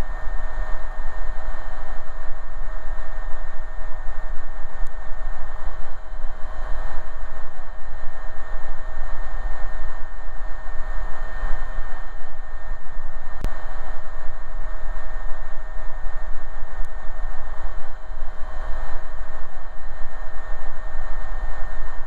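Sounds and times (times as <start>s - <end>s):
helicopter engine and rotor noise: 0.0s - 22.0s.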